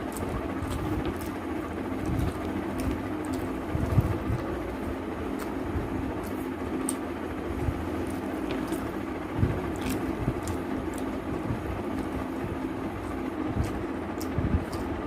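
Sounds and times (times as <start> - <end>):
person chewing: 0.0 - 15.0
steady background hum: 0.0 - 15.0.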